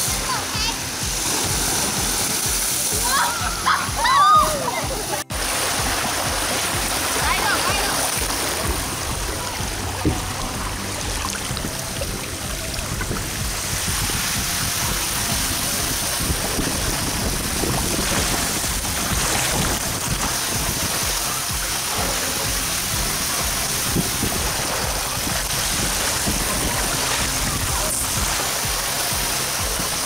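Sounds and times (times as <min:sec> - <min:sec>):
water rushing down slide: 0:00.0 - 0:30.0.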